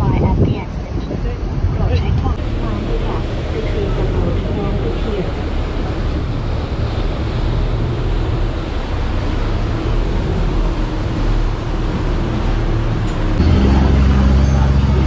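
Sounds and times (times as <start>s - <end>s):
boat engine running: 0.0s - 15.0s
churning wake rushing: 0.0s - 15.0s
low engine hum: 0.0s - 15.0s
wind on microphone: 0.0s - 15.0s.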